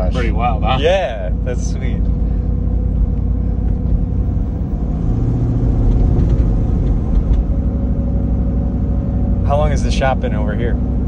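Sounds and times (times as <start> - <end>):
car engine rumbling from cabin: 0.0 - 11.0
road noise: 0.0 - 11.0.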